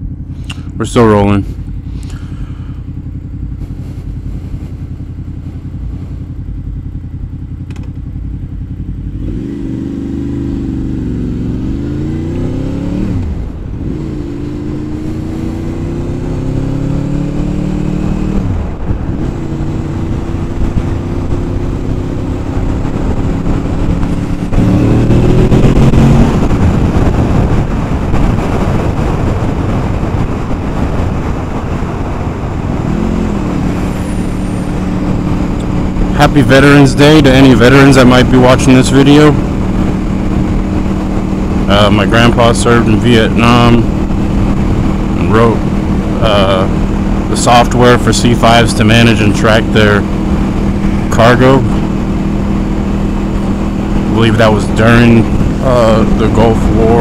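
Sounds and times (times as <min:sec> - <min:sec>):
wind rush: 0:00.0 - 0:06.5, 0:09.2 - 0:57.0
motorcycle engine accelerating: 0:00.0 - 0:57.0.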